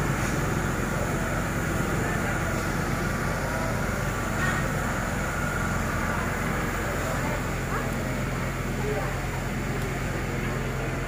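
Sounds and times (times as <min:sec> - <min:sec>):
locomotive engine rumbling: 0:00.0 - 0:11.0.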